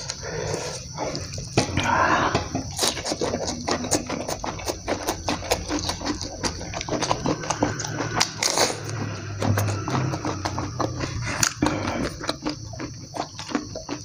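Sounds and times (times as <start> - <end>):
person chewing with smacking: 0.0 - 14.0.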